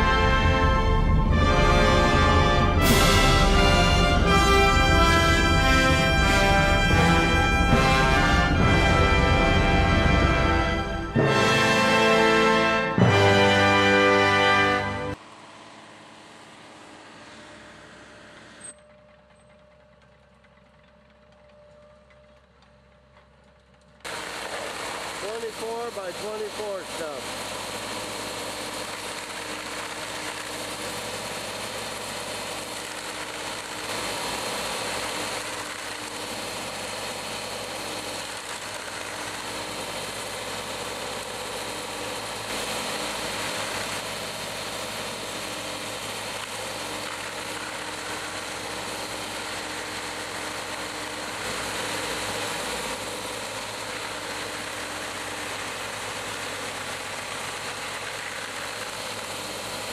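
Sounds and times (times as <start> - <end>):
cutting disc grinding stump: 0.0 - 59.9
stump grinder engine under load: 0.0 - 59.9.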